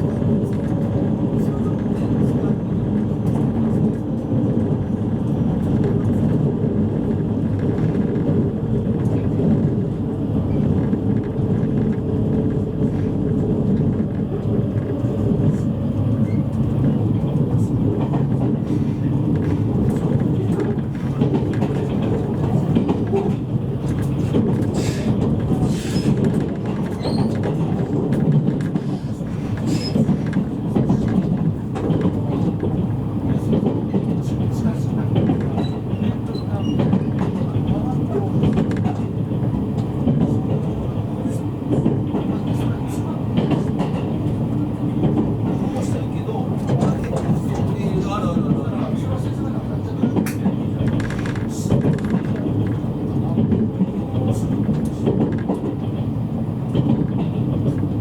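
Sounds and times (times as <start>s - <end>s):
train interior rumble: 0.0s - 58.0s.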